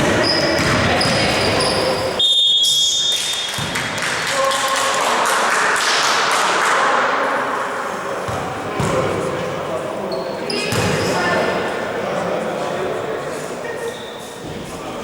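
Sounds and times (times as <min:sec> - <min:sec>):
din of sports hall: 0:00.0 - 0:15.0.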